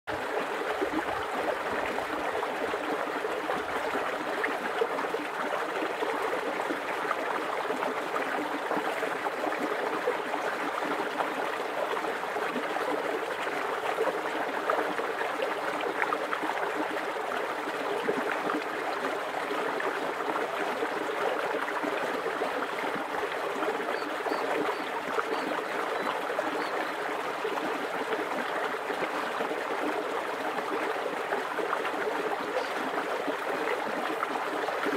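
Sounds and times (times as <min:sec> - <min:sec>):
creek water babbling: 0:00.1 - 0:34.9.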